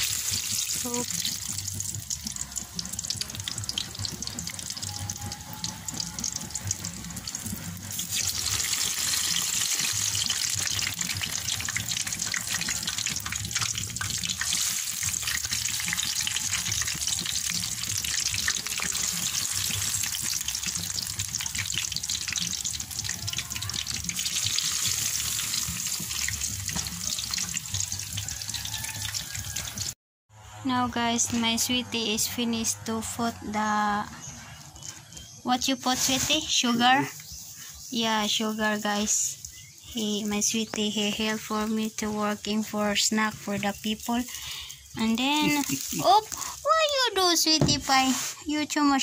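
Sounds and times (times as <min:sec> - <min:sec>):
deep-frying crackle and sizzle: 0:00.0 - 0:30.0, 0:34.2 - 0:49.0.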